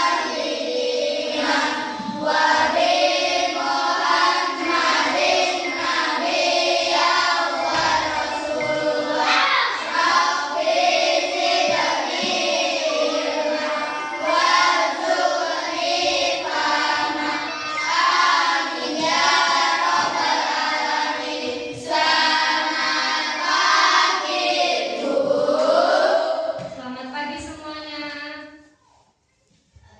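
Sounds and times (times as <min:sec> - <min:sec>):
children singing together: 0:00.0 - 0:26.8.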